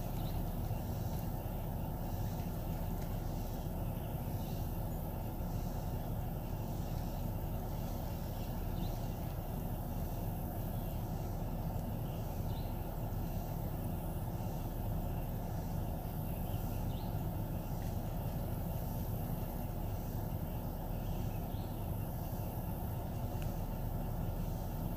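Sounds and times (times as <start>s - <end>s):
outdoor background noise: 0.0s - 24.9s.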